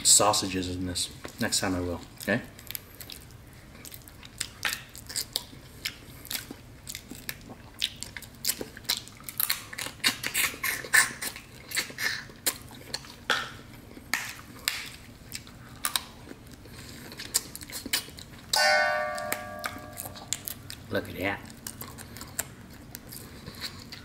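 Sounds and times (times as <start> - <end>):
person chewing and sucking: 2.2 - 18.6, 19.8 - 24.0.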